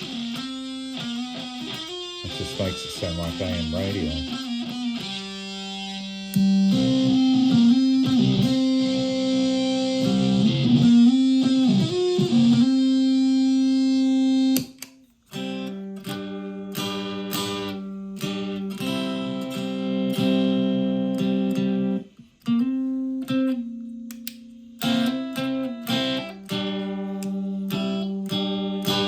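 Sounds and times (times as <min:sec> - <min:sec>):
fuzzed electric ukulele notes: 0:00.0 - 0:29.0.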